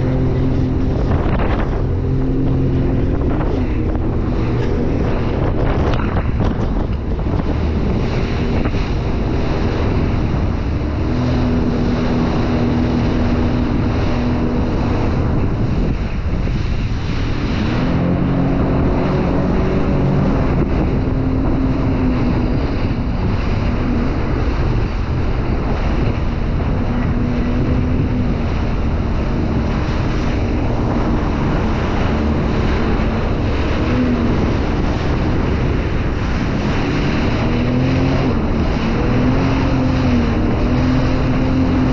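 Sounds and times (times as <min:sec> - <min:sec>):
jet ski engine hum: 0:00.0 - 0:41.9
water splashing: 0:00.0 - 0:41.9
wind buffeting microphone: 0:00.0 - 0:41.9.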